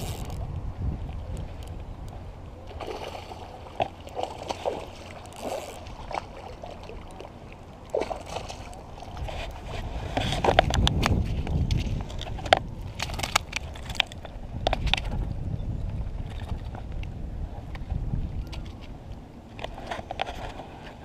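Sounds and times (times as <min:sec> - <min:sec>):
low wind rumble on microphone: 0:00.0 - 0:21.0.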